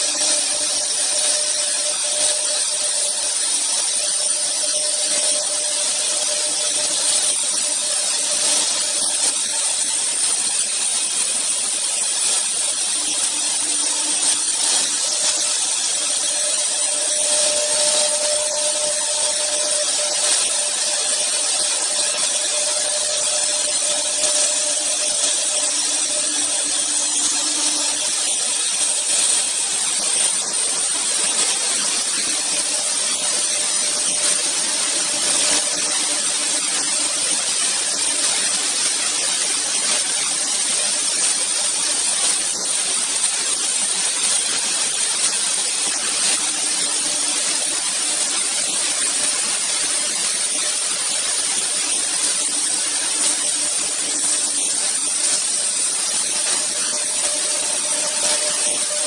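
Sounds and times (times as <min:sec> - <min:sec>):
cnc router cutting wood: 0:00.0 - 0:59.0.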